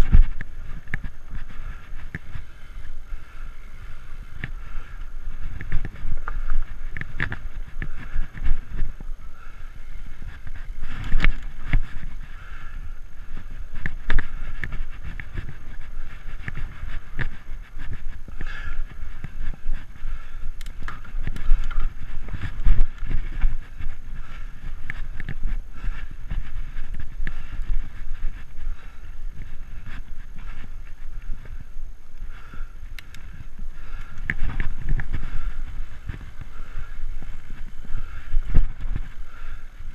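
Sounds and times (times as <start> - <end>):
bike knocking and rattling: 0.0 - 39.9
bike tyres rumbling on dirt: 0.0 - 39.9.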